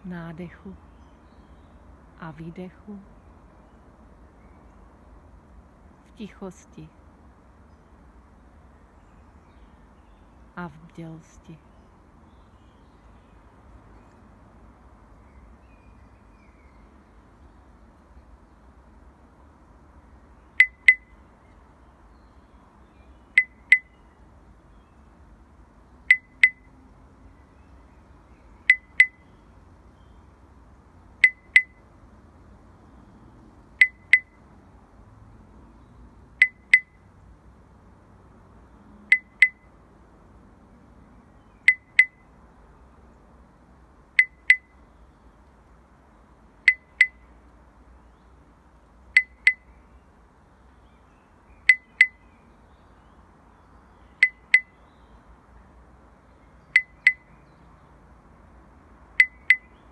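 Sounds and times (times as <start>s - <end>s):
faint low background noise: 0.0s - 59.9s.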